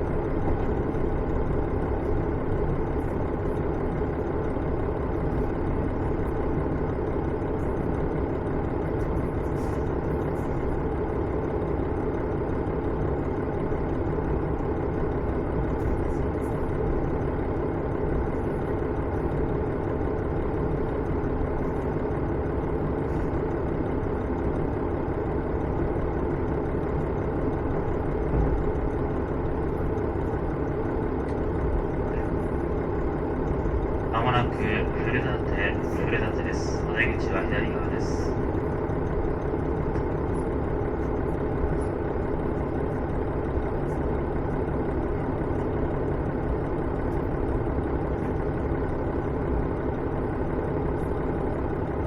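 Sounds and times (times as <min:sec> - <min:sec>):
diesel railcar rumbling: 0:00.0 - 0:52.0.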